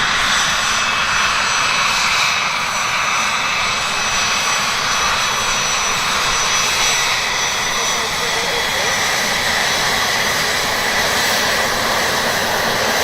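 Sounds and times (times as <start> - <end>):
high engine whines: 0.0 - 13.0
jet engines running: 0.0 - 13.0.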